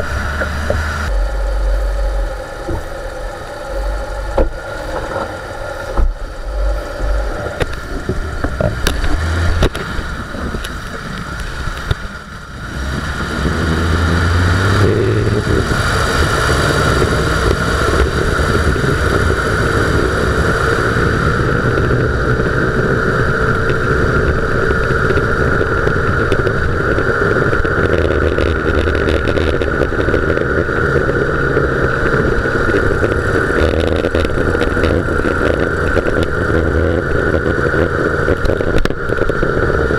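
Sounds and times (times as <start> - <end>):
tyre and road noise: 0.0 - 39.9
wheel bearing growl: 0.0 - 39.9.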